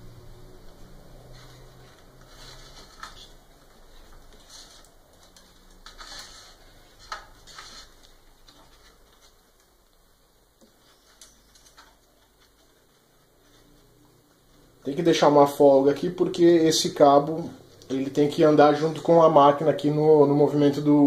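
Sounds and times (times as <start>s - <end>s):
cables rustling and clicking: 0.1s - 16.6s, 17.2s - 19.7s.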